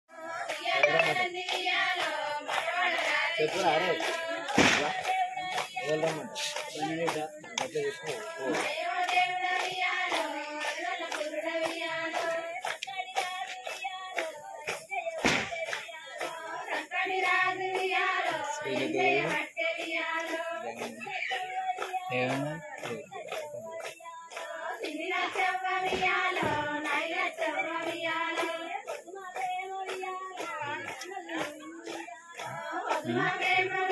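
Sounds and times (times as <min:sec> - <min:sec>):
women clapping in rhythm: 0:00.1 - 0:33.9
women singing folk song: 0:00.1 - 0:33.9.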